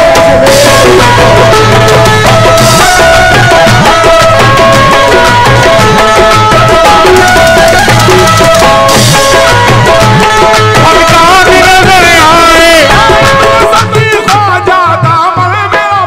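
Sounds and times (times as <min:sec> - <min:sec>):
person singing melodic run: 0:00.0 - 0:15.9
harmonium notes: 0:00.0 - 0:16.0
tabla drumming: 0:00.0 - 0:16.0.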